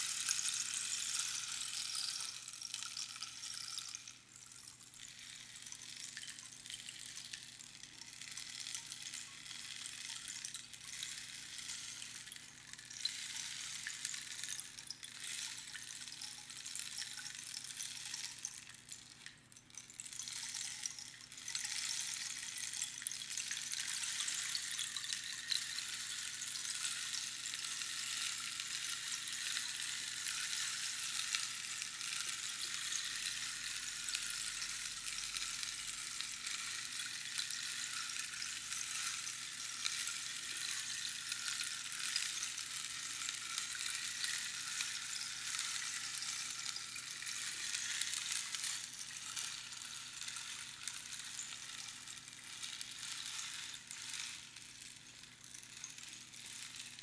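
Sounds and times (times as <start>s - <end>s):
rainstick pebbles trickling: 0.0s - 57.0s.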